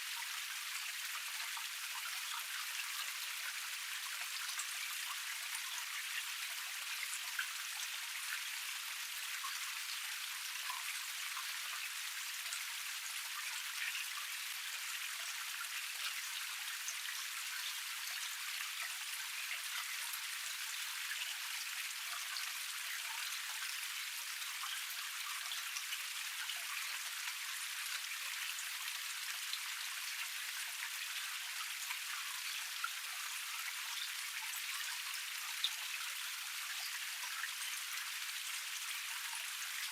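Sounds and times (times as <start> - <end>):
running water hiss: 0.0 - 39.9
small drip-like splashes: 0.0 - 39.9.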